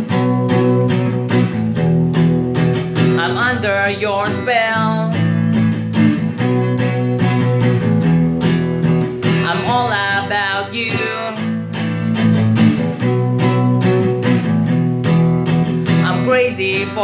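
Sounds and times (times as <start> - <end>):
electric guitar melody: 0.0 - 17.0.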